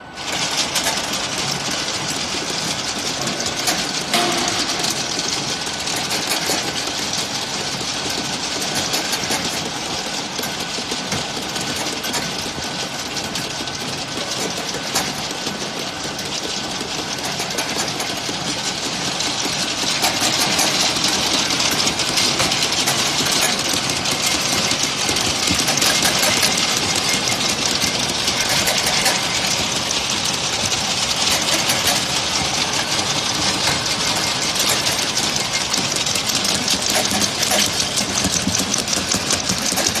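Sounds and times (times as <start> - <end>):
washing machine rattling and hissing: 0.0 - 40.0.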